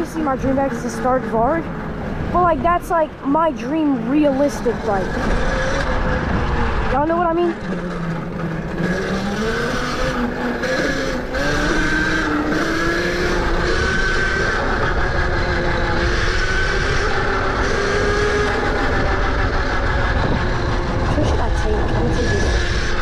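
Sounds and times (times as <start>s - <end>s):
rushing wind: 0.0s - 23.0s
electric dirt bike motor whining: 4.0s - 23.0s.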